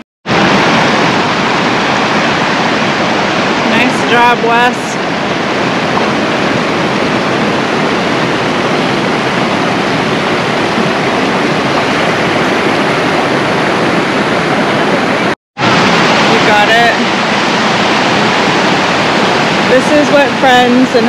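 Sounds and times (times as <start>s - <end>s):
loud steady rushing noise: 0.2s - 21.0s.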